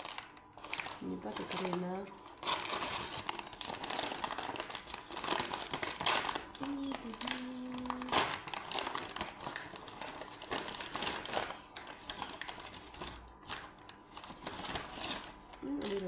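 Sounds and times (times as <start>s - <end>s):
paper packaging rustling: 0.0s - 16.0s.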